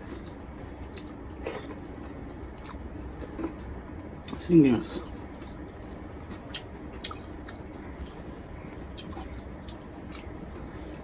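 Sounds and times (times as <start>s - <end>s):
person chewing food: 0.0s - 4.4s, 5.0s - 11.0s.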